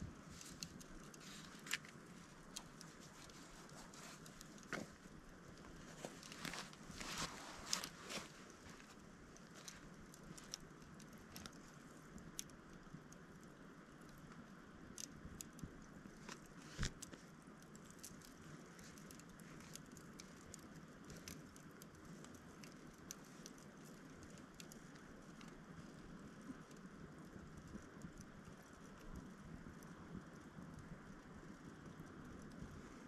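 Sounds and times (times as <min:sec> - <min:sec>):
campfire crackling: 0:00.0 - 0:33.0
soft fire hiss: 0:00.0 - 0:33.0.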